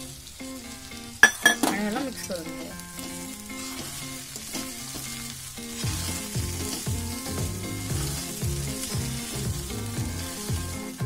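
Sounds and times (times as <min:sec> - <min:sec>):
background music: 0:00.0 - 0:11.0
rice sizzling in a pan: 0:00.0 - 0:11.0
metal spatula stirring: 0:01.2 - 0:11.0.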